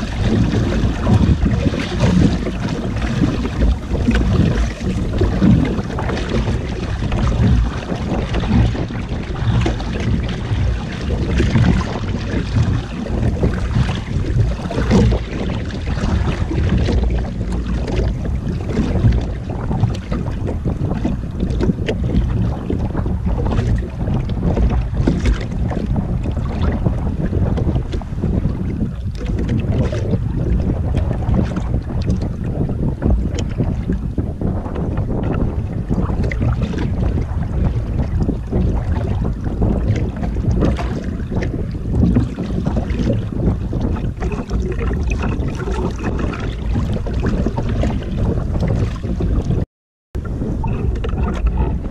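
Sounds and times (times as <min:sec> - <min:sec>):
water splashing against hull: 0:00.0 - 0:49.6, 0:50.2 - 0:51.9
wind buffeting microphone: 0:00.0 - 0:49.6, 0:50.2 - 0:51.9.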